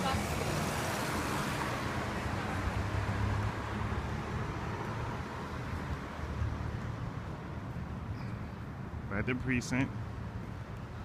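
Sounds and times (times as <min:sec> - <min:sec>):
car passing: 0:00.0 - 0:11.0
steady low traffic hum: 0:00.0 - 0:11.0.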